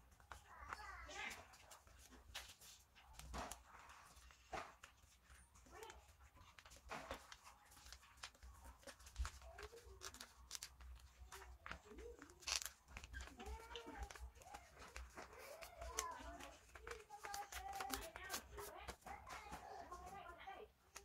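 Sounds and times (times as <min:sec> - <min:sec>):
faint voice-like sounds: 0:00.0 - 0:21.0
paper crackling and folding: 0:00.0 - 0:21.0.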